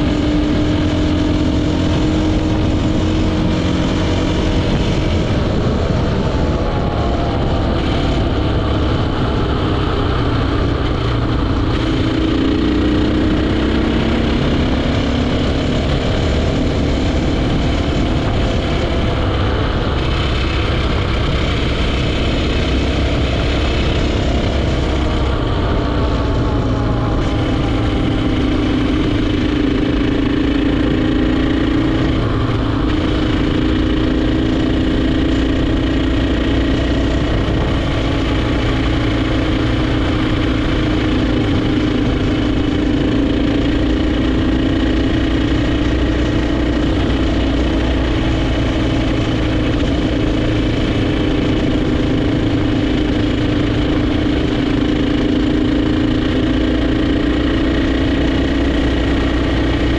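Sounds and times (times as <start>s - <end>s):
motorcycle engine running: 0.0s - 59.9s
steady rush of noise: 0.0s - 59.9s.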